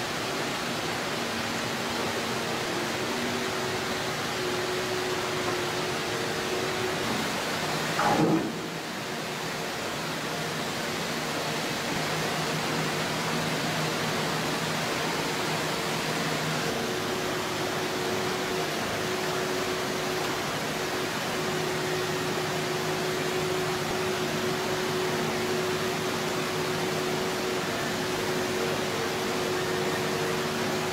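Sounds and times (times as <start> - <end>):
faint excavator engine drone: 0.0 - 30.9.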